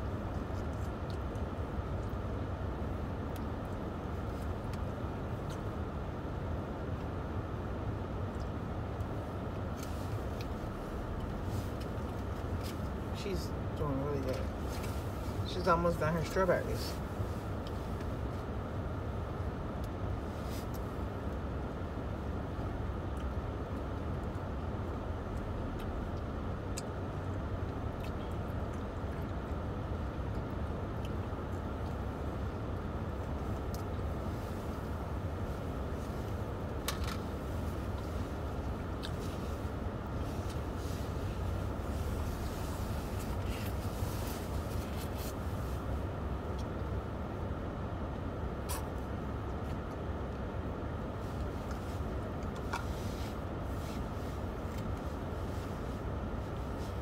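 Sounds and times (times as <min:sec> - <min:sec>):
car cabin engine rumble: 0:00.0 - 0:57.0.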